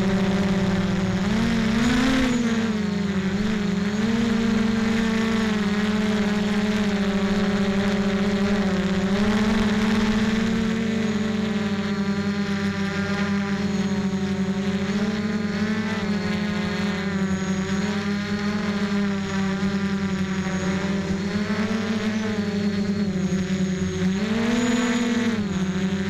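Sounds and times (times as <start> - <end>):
model aircraft motor whine: 0.0 - 26.0.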